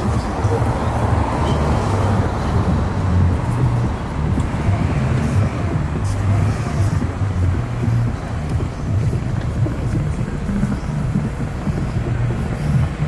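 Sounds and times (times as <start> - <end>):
road traffic noise: 0.0 - 13.0
vehicle engine rumbling: 0.0 - 13.0.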